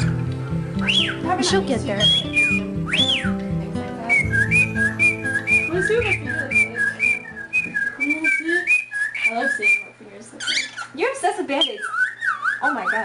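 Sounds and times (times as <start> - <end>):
cockatiel whistling song: 0.0 - 3.4, 4.0 - 13.0.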